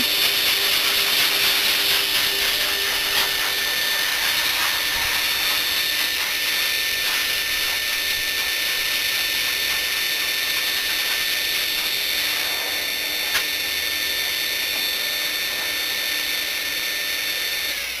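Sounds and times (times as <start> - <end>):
air hissing from hose: 0.0 - 16.7
dog dryer motor whining: 0.0 - 18.0.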